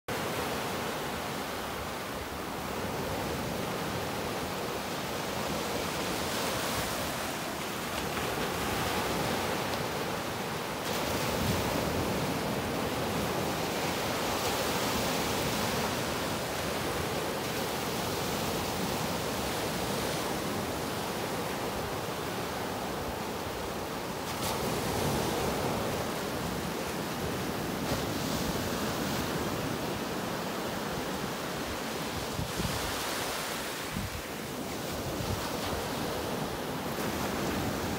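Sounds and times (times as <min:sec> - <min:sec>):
waves breaking on shore: 0:00.1 - 0:37.9.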